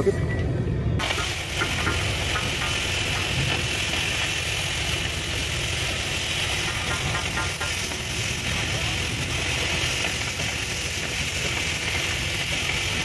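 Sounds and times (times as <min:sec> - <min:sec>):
cutting torch hissing: 0:01.0 - 0:13.0.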